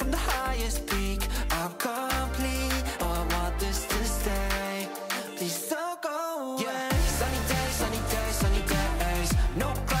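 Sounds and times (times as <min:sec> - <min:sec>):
music with beat and deep bass: 0:00.0 - 0:05.8, 0:06.9 - 0:10.0.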